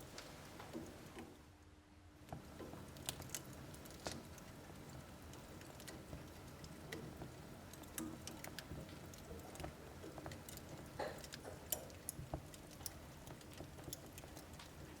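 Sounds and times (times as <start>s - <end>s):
logs crackling and popping: 2.3s - 15.0s
low rumble of flames: 2.4s - 15.0s.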